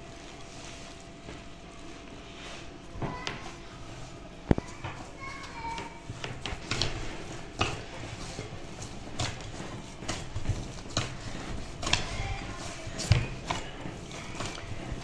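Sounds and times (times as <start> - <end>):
dough squelching in glass bowl: 0.0 - 15.0.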